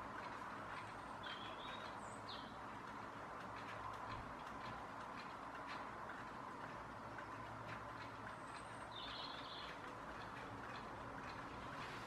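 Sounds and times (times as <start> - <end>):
background hum: 0.0 - 12.0
faint ticks: 0.0 - 12.0.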